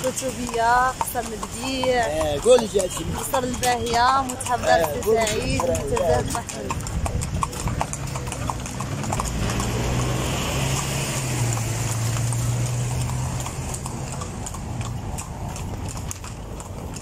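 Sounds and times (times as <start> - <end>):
horse hooves on pavement: 0.0 - 17.0.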